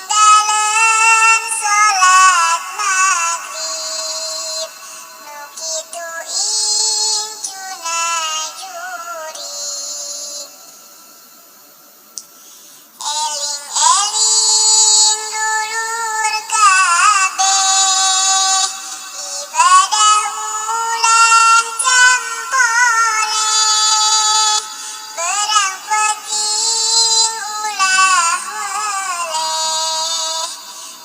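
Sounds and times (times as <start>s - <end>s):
person chanting devotional verse: 0.0s - 11.6s, 12.2s - 31.0s.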